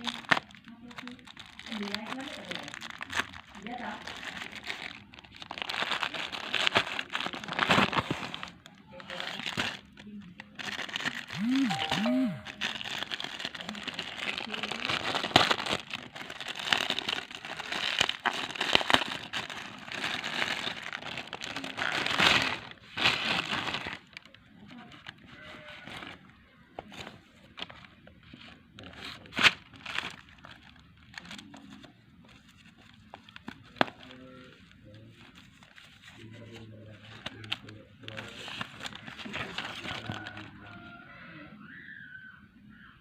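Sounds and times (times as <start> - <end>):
packaging crinkling and rustling: 0.0 - 12.0, 12.6 - 26.2, 26.8 - 40.6.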